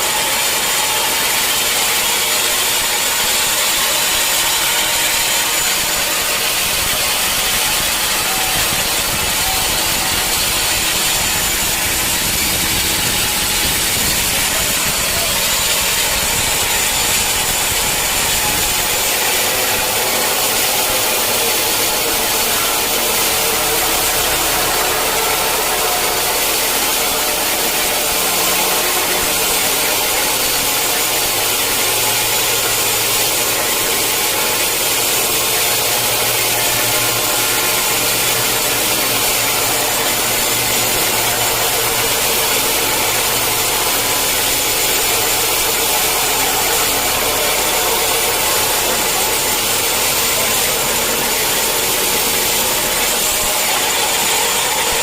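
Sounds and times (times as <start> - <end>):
blade sawing through wood: 0.0 - 55.0
sawmill saw running: 0.0 - 55.0.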